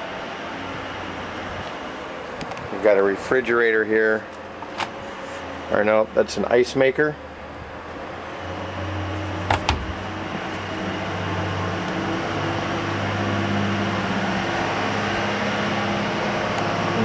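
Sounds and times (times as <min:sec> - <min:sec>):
machinery hum with low drone: 0:00.0 - 0:17.0.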